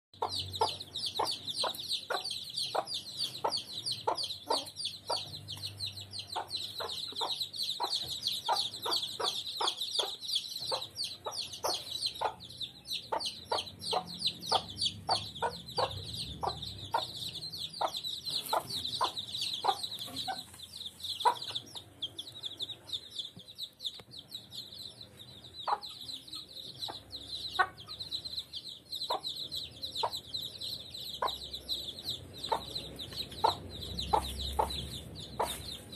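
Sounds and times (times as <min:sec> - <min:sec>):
chicks peeping: 0:00.2 - 0:35.9
hen clucking: 0:00.2 - 0:35.9.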